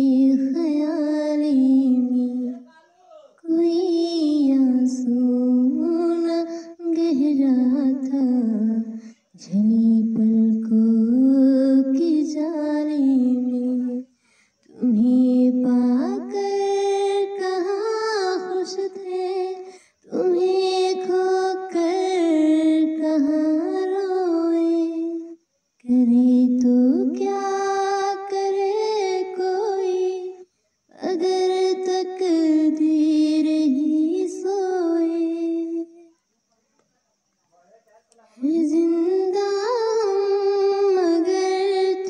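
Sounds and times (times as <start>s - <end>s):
woman singing unaccompanied: 0.0s - 36.1s, 38.4s - 42.0s.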